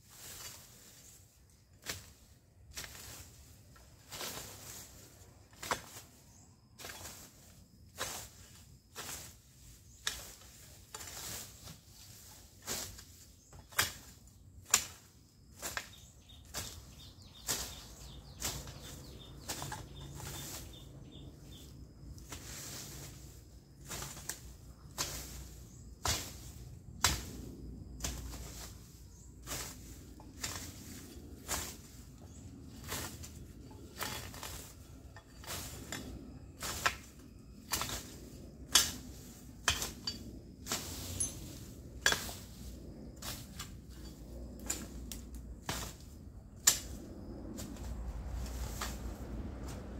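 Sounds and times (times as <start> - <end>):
hoe chopping and scraping soil: 0.0 - 49.9.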